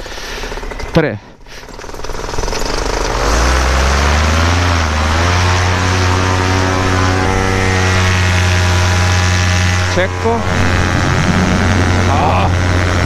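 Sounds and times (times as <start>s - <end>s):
paramotor engine at full power: 1.6s - 13.0s.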